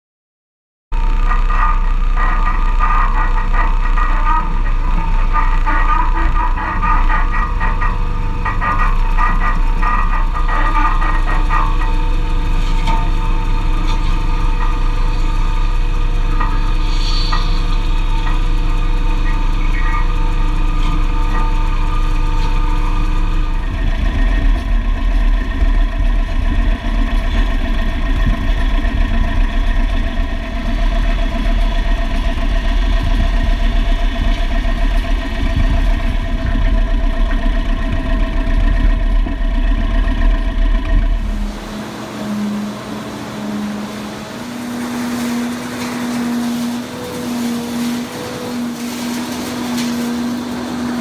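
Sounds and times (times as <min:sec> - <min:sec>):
harvesting machinery running: 0:00.9 - 0:51.0.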